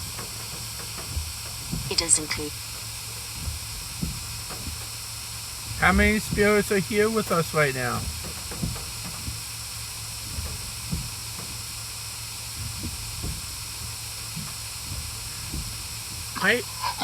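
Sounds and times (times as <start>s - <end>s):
low hum: 0.0s - 17.0s
rain on a car: 0.0s - 17.0s.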